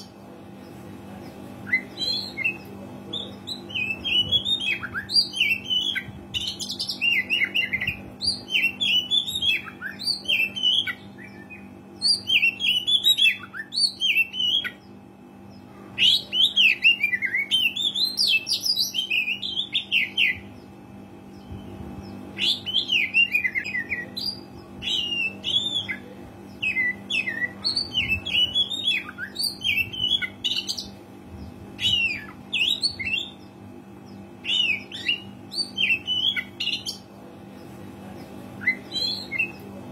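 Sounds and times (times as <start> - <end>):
faint steady hum: 0.0 - 39.9
bird singing whistles and chatter: 1.6 - 14.8, 16.0 - 20.7, 21.3 - 30.9, 31.8 - 33.4, 34.2 - 37.0, 38.1 - 39.8.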